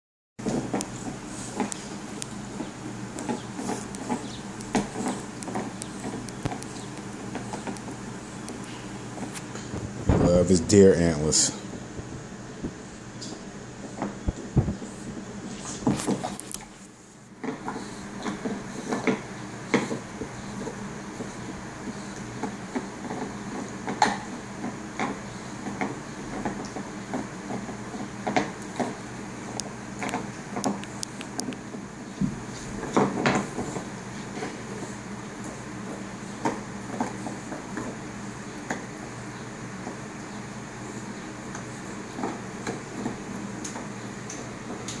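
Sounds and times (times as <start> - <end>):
dog gnawing an antler: 0.4 - 9.6, 13.2 - 45.0.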